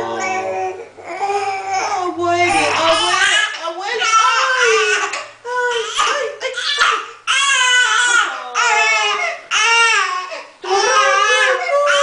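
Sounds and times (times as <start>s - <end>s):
baby crying: 0.0s - 12.0s.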